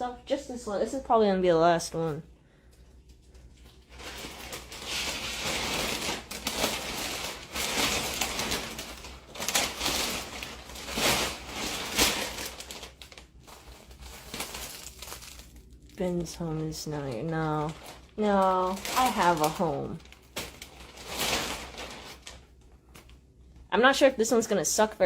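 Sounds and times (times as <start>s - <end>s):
plastic bag crinkling and rustling: 1.8s - 24.1s.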